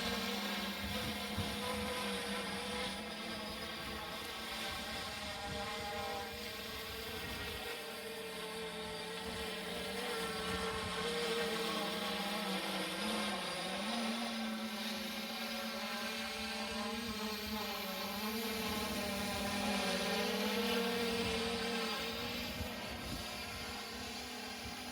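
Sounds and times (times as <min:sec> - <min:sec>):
drone propeller buzz: 0:00.0 - 0:24.9.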